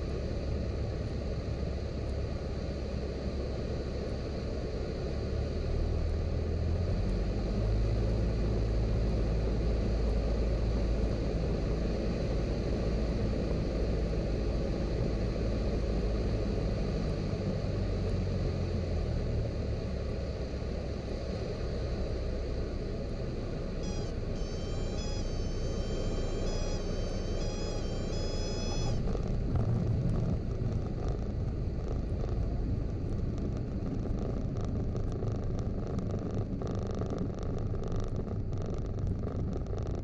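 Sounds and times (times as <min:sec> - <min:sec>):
propeller plane engine rumbling: 0:00.0 - 0:40.0.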